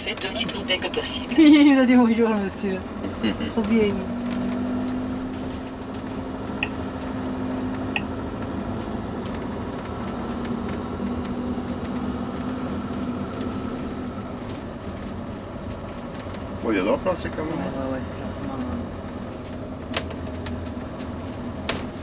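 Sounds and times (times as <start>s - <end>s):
engine and road noise in cab: 0.0s - 22.0s.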